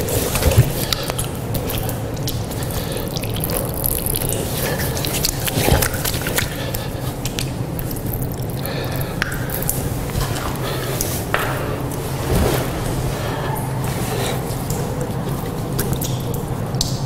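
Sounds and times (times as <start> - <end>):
hands washing under water: 0.0 - 17.0
water drips: 0.0 - 17.0.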